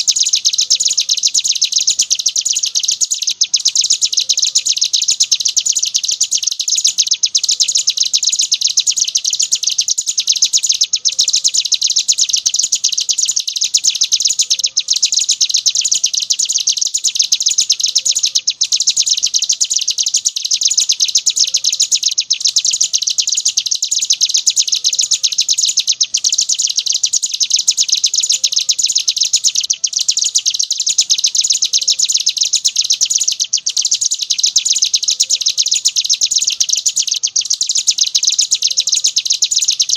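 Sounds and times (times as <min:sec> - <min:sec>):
songbird chattering trill: 0:00.0 - 0:39.9.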